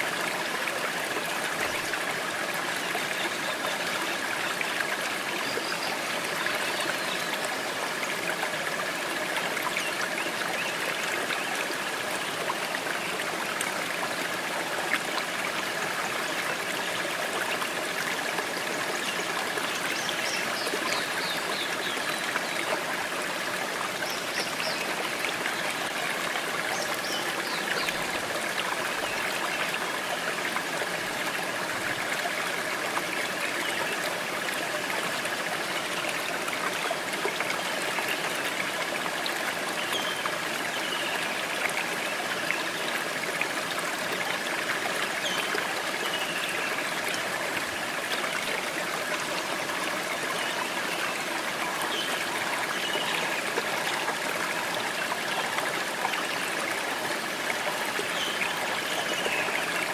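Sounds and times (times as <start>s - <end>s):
stream splashing over rocks: 0.0s - 59.9s.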